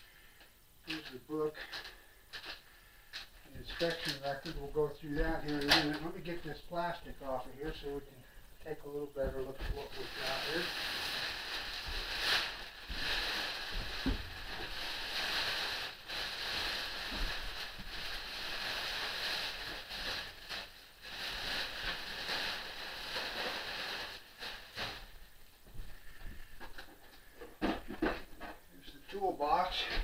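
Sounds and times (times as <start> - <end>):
plastic wrapping crackling: 0.9 - 8.0, 8.6 - 27.3.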